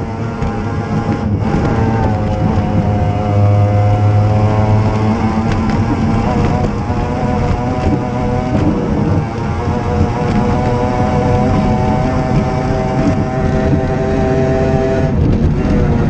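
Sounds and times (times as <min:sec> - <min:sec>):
racing outboard engine: 0:00.0 - 0:16.0.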